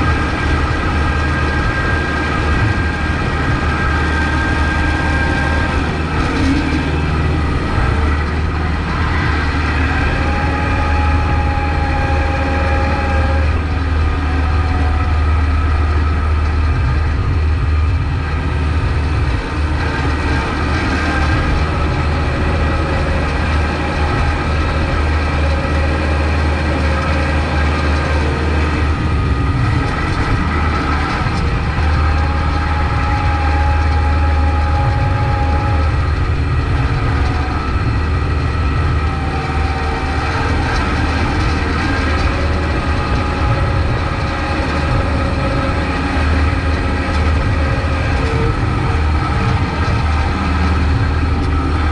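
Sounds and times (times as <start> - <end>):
high whine: 0.0 - 51.9
tractor diesel engine running: 0.0 - 51.9.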